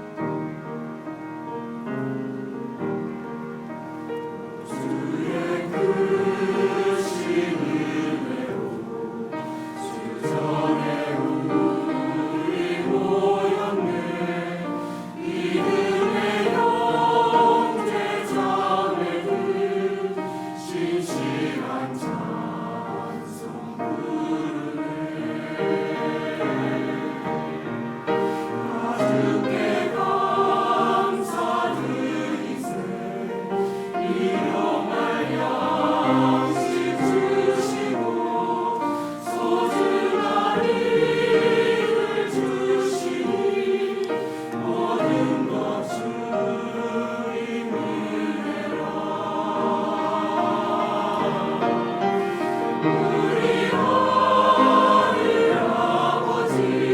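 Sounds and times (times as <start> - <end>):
church choir singing a hymn: 0.0 - 56.9.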